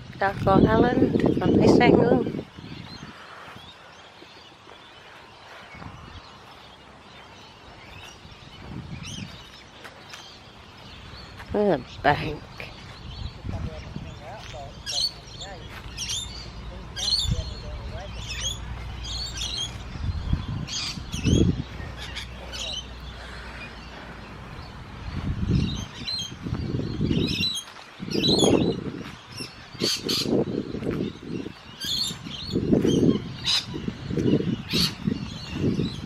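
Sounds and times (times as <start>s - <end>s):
wind buffeting microphone: 0.0s - 4.4s, 5.2s - 36.0s
birds chirping: 0.0s - 36.0s.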